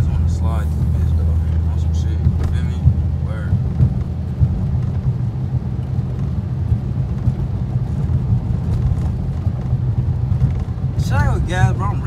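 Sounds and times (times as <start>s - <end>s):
car engine deep rumble: 0.0s - 12.0s.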